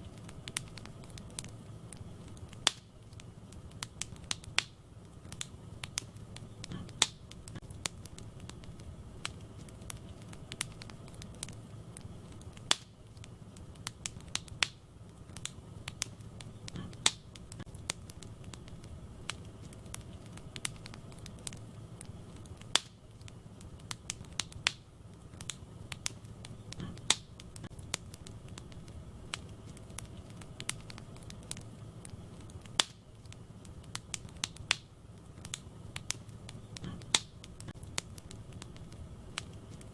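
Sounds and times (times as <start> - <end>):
flames rumbling: 0.0 - 39.9
wood fire crackling: 0.0 - 39.9.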